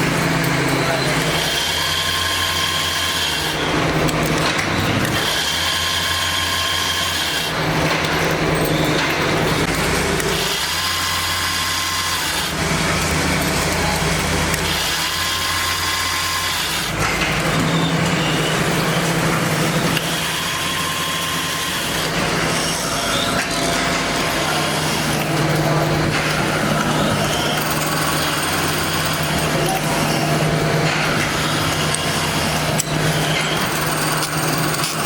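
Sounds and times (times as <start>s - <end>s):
power tool whine: 0.0s - 7.6s, 9.8s - 35.0s
workshop machinery humming: 0.0s - 35.0s.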